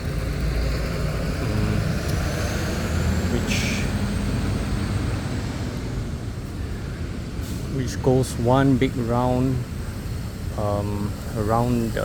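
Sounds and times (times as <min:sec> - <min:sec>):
heavy vehicle engine rumbling: 0:00.0 - 0:12.0.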